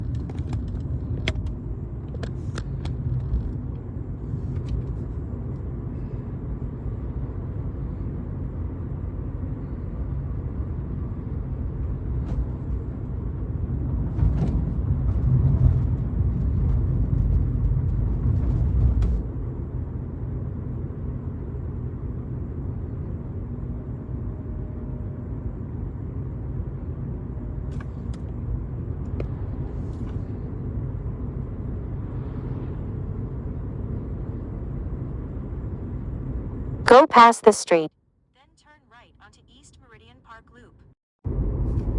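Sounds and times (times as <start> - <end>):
engines and road traffic rumble: 0.0 - 37.5, 41.3 - 41.9.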